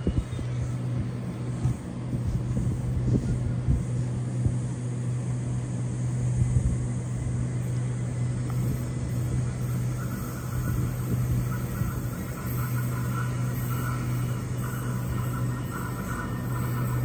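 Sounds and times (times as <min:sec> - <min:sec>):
train equipment low hum: 0:00.0 - 0:17.0.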